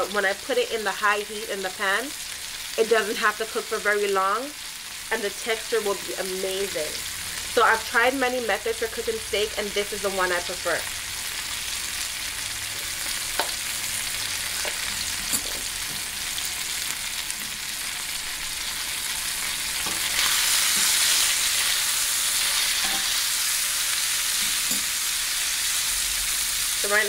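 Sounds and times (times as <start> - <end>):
steak sizzling in a frying pan: 0.0 - 27.0.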